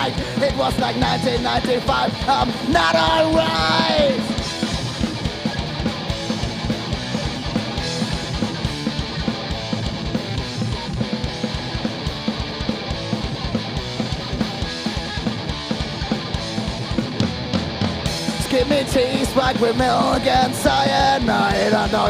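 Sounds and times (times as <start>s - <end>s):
electric guitar: 0.0s - 22.0s
fast steady drumming: 0.0s - 22.0s.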